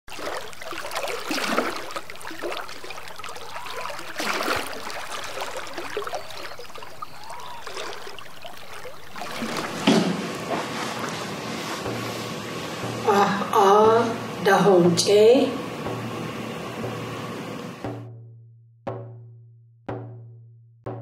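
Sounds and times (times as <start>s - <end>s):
river water flowing and gurgling: 0.1s - 18.0s.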